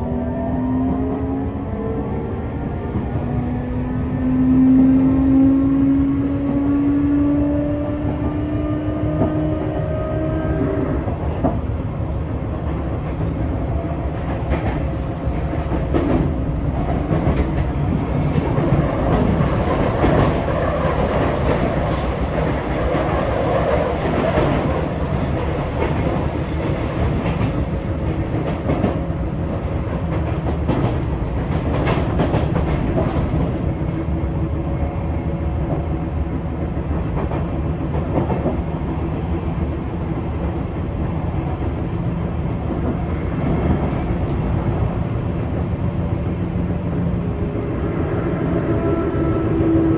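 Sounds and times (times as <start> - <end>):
wheel and rail rumble: 8.1 - 49.9.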